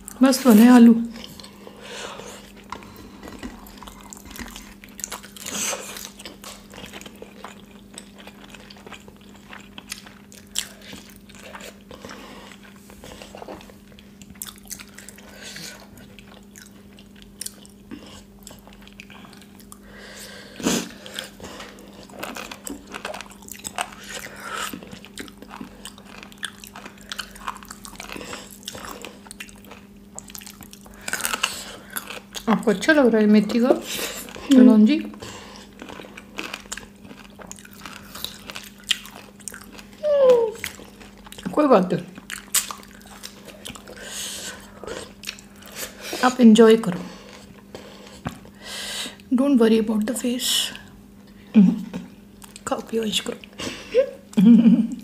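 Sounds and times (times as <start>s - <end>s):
steady low hum: 0.0s - 55.0s
chewing and biting food: 1.1s - 20.0s, 20.6s - 46.2s.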